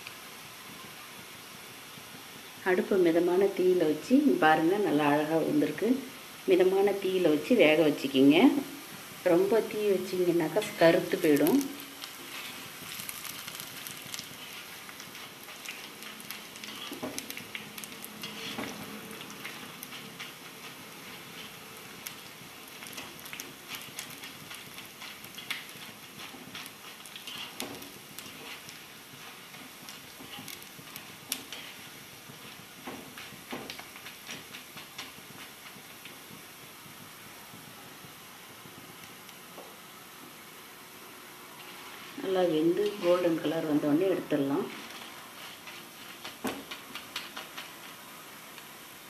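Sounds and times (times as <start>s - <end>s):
batter deep-frying in oil: 0.0s - 49.0s.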